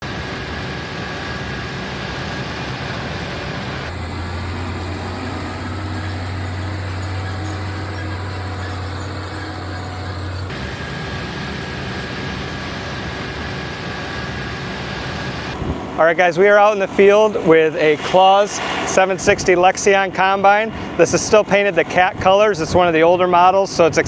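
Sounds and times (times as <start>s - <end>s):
farm machinery engine drone: 0.0s - 24.0s.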